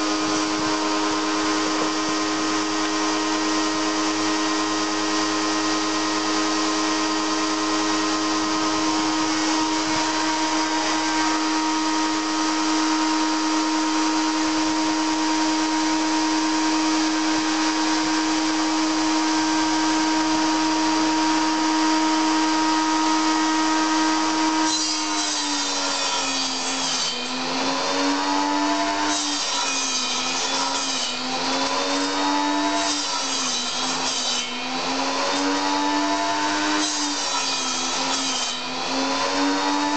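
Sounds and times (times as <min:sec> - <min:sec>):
table saw cutting wood: 0:00.0 - 0:39.9
table saw running: 0:00.0 - 0:39.9.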